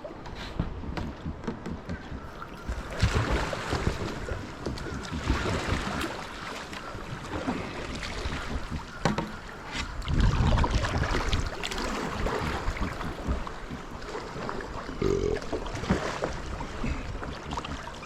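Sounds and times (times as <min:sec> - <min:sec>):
water around a kayak: 0:00.0 - 0:18.0
wind buffeting microphone: 0:00.0 - 0:18.0.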